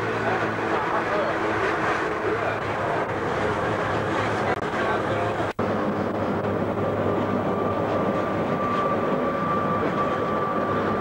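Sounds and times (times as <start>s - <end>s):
railway car rumble: 0.0s - 11.0s.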